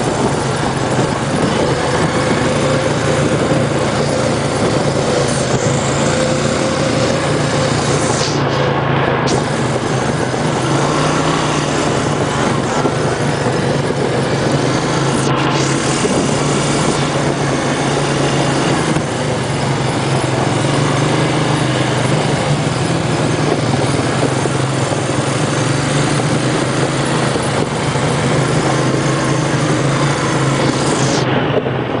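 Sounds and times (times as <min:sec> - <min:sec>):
atv engine running: 0:00.0 - 0:32.0
loud rushing noise: 0:00.0 - 0:32.0.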